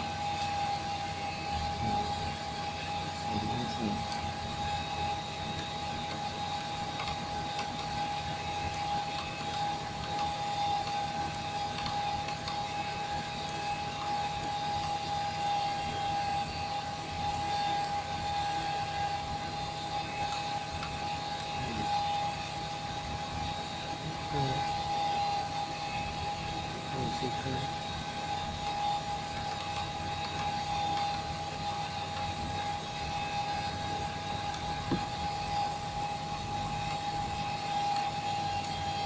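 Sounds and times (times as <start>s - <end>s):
aircraft cockpit mechanical hum: 0.0s - 39.0s
constant high whine: 0.0s - 39.0s.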